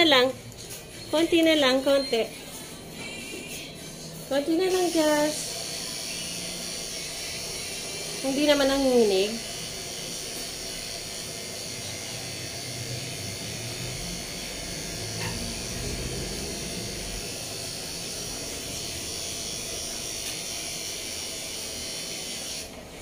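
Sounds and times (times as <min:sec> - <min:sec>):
electric clippers running: 0:04.5 - 0:23.0.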